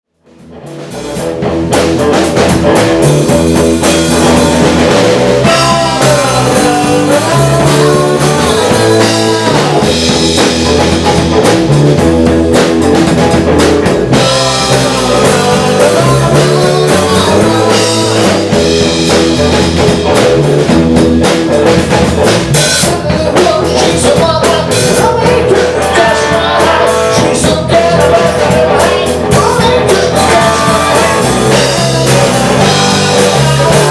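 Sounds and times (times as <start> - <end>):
rock music with drums: 0.1 - 33.9.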